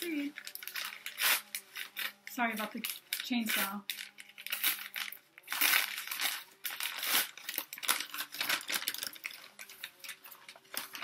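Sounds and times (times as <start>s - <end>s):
newspaper crinkling: 0.0s - 11.0s.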